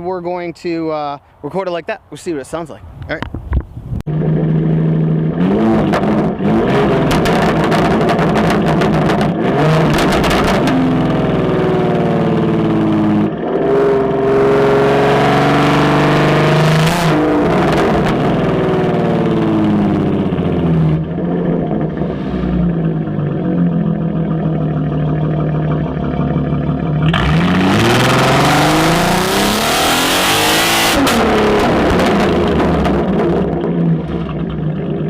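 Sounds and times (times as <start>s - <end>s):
car engine revving hard: 4.1s - 35.0s.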